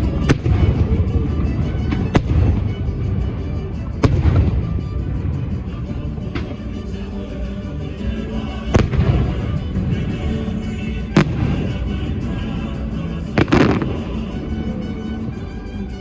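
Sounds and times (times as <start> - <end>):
show music: 0.0 - 16.0.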